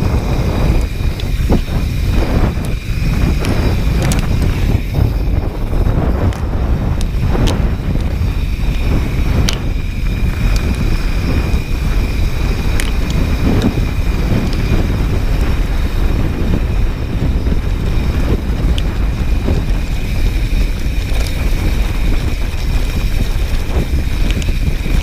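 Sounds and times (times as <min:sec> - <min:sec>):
bike knocking and rattling on stones: 0:00.0 - 0:25.0
bike tyres rolling on rocky trail: 0:00.0 - 0:25.0
wind buffeting microphone: 0:00.0 - 0:25.0.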